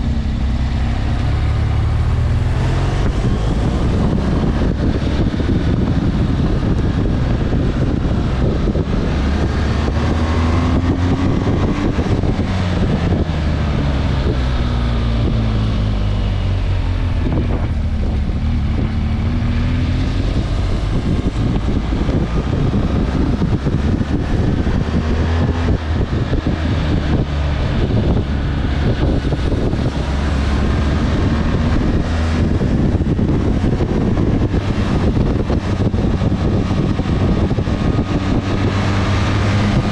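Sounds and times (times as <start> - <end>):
motorcycle engine revving: 0.0 - 39.9
wind rushing over microphone: 0.0 - 39.9.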